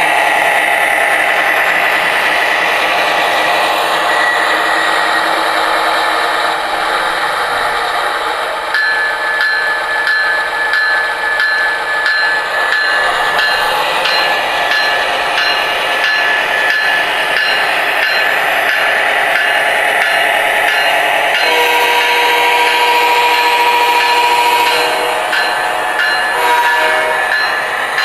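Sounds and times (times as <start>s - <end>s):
model train wheels on rails: 0.0s - 28.0s
steady high tone: 2.0s - 28.0s.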